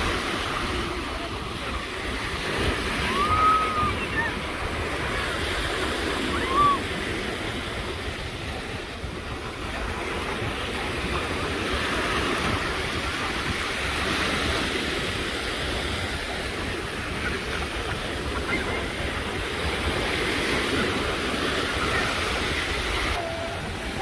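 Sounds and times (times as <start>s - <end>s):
small waves breaking on sand: 0.0s - 24.0s.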